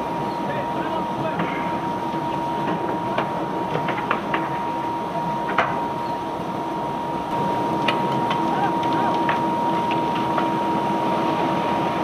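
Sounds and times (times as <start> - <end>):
machinery high whine: 0.0 - 12.0.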